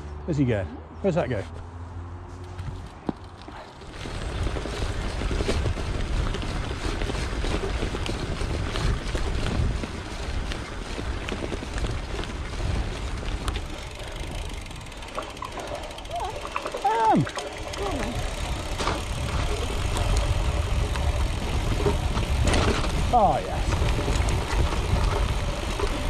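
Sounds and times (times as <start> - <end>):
bike tyres crunching on gravel: 2.3 - 26.0
bike rattling over bumps: 2.4 - 26.0
wind buffeting microphone: 3.8 - 26.0.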